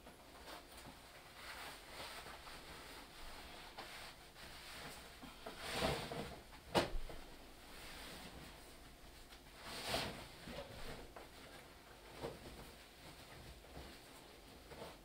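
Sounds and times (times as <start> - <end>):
clothing rustling: 0.1 - 15.0.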